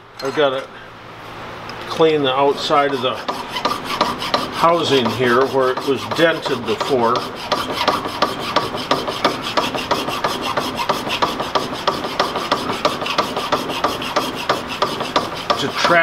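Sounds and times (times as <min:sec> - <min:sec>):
hand file filing metal: 0:02.0 - 0:16.0.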